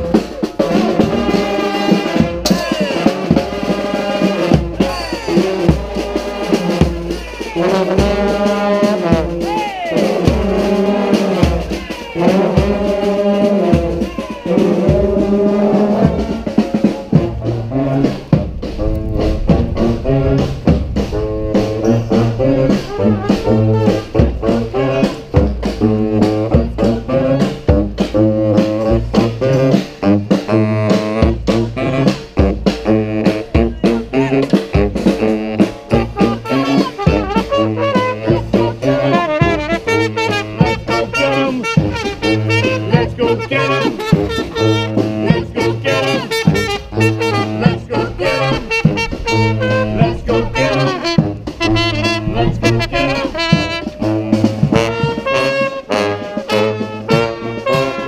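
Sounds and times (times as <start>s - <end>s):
brass band playing: 0.0s - 58.0s
snare and bass drums: 0.0s - 58.0s.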